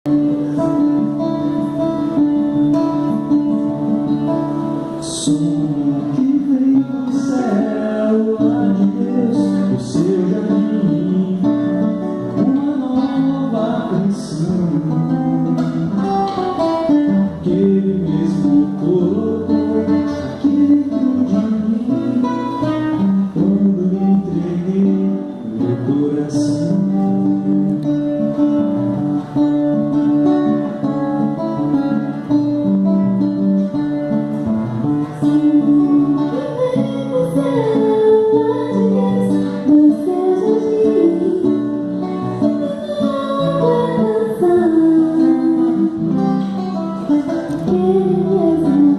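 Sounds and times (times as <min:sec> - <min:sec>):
acoustic guitar playing: 0:00.0 - 0:48.9
person singing: 0:00.1 - 0:30.7, 0:34.8 - 0:48.9.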